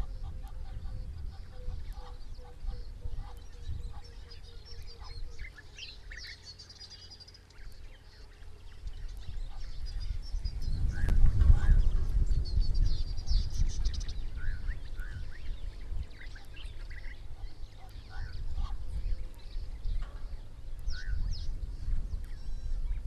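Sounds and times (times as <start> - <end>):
birds calling: 0.0 - 23.0
high chattering bird calls: 0.0 - 23.0
low rumble of outdoor noise: 0.0 - 23.0.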